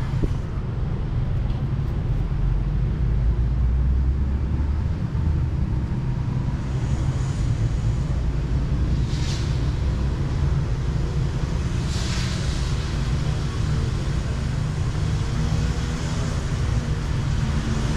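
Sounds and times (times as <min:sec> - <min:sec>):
distant traffic rumble: 0:00.0 - 0:17.9.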